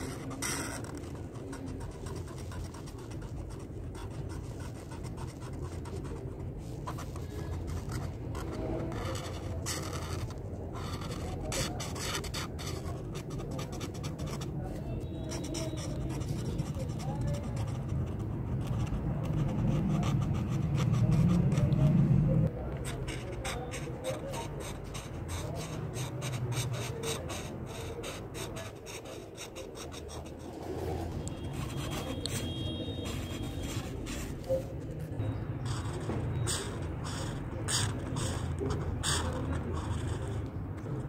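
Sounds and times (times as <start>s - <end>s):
marker scratching on paper: 0.0s - 41.0s.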